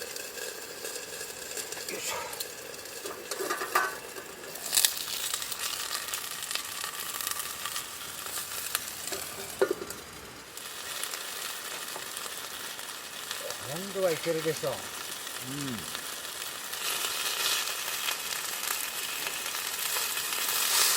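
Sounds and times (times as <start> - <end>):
chicken sizzling in a frying pan: 0.0 - 20.9.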